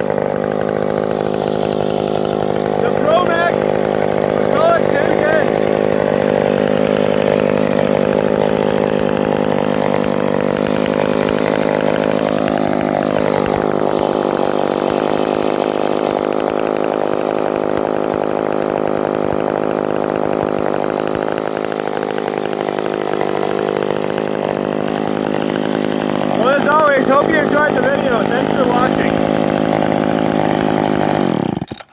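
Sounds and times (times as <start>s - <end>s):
chainsaw engine running: 0.0s - 31.9s.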